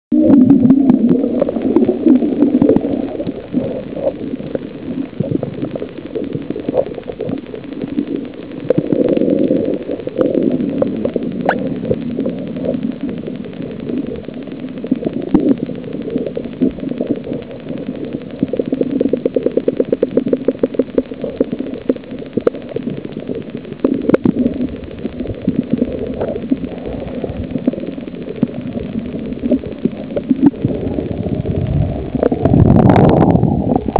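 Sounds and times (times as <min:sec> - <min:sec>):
underwater rumbling and gurgling: 0:00.1 - 0:33.9
sharp underwater clicks: 0:00.2 - 0:33.9.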